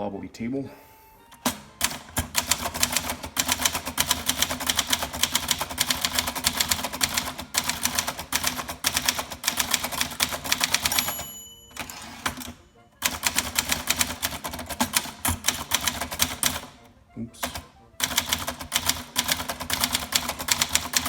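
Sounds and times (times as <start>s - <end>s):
manual typewriter key strikes: 1.4s - 16.8s, 17.4s - 21.0s.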